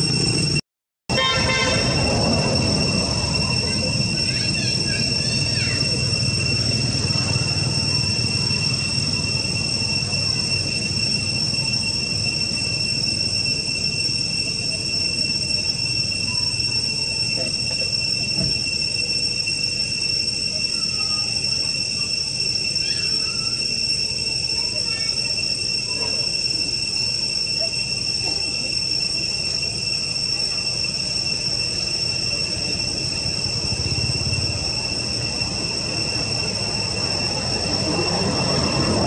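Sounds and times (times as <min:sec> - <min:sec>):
high-pitched insect drone: 0:00.0 - 0:39.0
faint chirps: 0:01.9 - 0:39.0.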